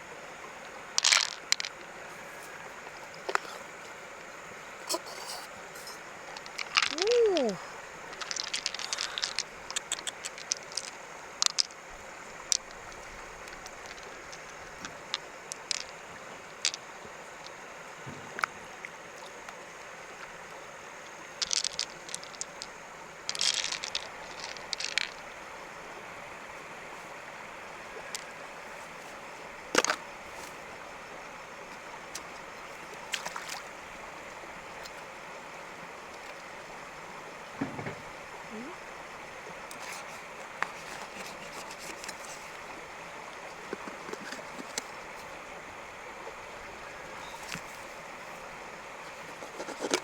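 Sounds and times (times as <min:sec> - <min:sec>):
stream water flowing: 0:00.0 - 0:50.0.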